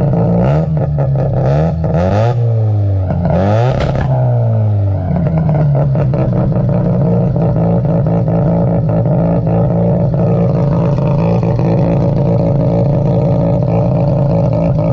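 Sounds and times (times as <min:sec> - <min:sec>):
rotary engine idling loud: 0:02.8 - 0:14.9.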